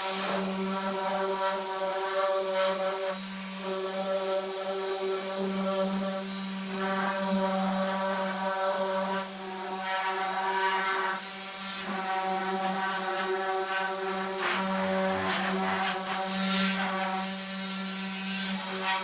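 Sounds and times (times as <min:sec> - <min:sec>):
electric sander on wood: 0:00.0 - 0:19.0.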